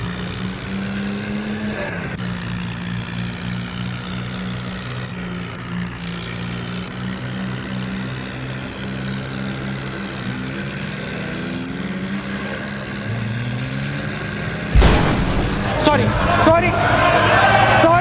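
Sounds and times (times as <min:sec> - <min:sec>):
motor droning hum: 0:00.0 - 0:18.0.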